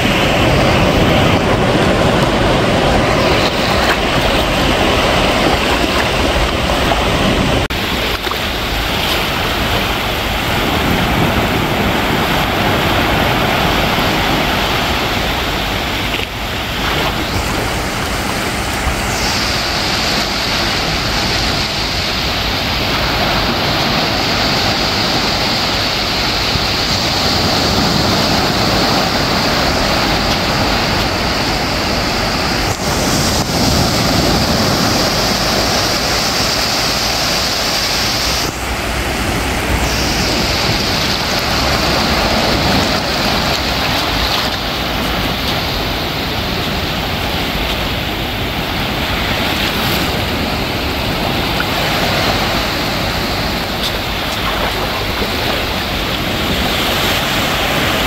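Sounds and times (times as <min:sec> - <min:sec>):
small waves on sandy shore: 0:00.0 - 0:58.0.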